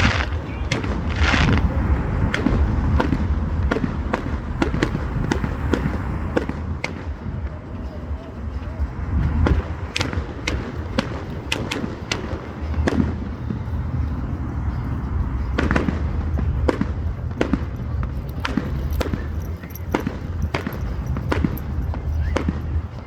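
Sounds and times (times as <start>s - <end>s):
fireworks bangs and cracks: 0.0s - 7.5s, 9.4s - 13.7s, 15.5s - 23.0s.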